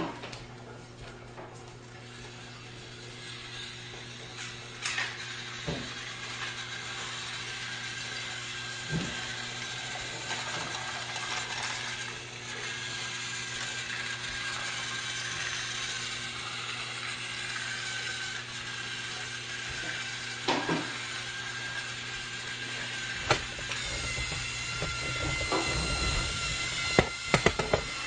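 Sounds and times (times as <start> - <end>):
toy train motor whirring: 1.9 - 28.0
toy train clicks: 3.2 - 28.0.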